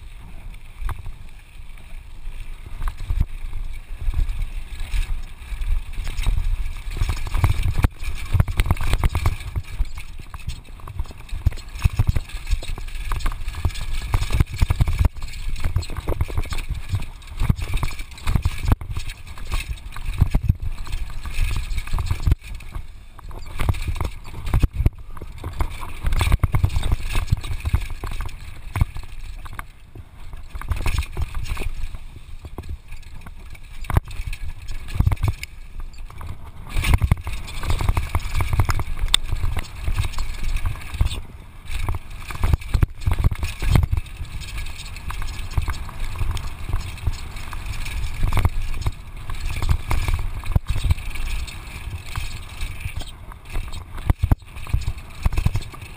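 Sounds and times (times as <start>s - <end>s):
bike rattling and knocking: 0.0s - 55.9s.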